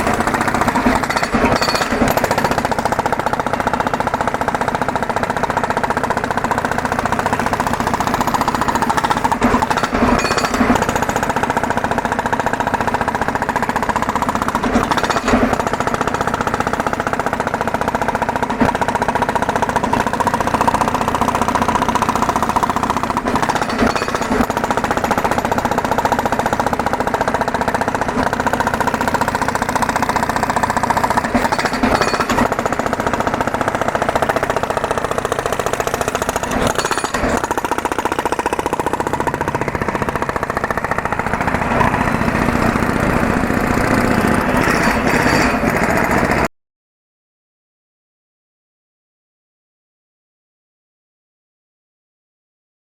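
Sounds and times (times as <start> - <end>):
road breaker hammering: 0.0 - 46.5.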